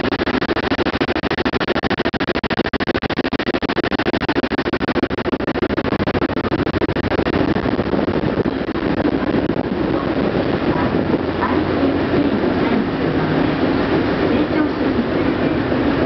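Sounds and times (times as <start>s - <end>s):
ship engine pulsing: 0.0s - 16.0s.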